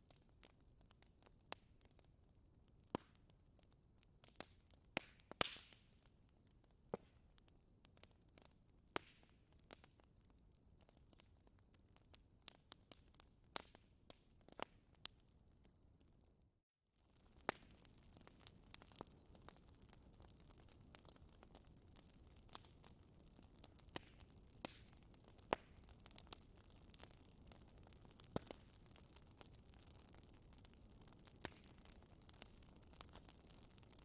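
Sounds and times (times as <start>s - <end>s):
wood fire crackling: 0.0s - 16.2s, 17.0s - 34.0s.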